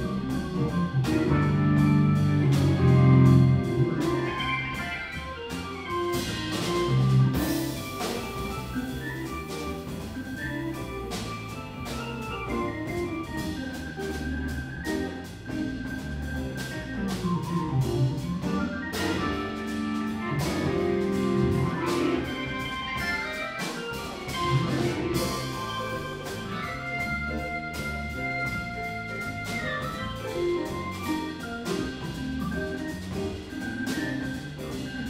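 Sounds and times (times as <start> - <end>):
drum kit cymbals: 0.0 - 35.0
electric guitars: 0.0 - 35.0
organ: 0.0 - 35.0.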